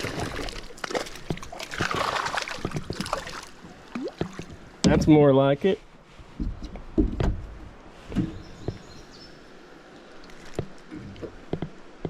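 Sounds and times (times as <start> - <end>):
knocks and clunks in a kayak: 0.0 - 5.5, 6.2 - 9.1, 10.5 - 12.0.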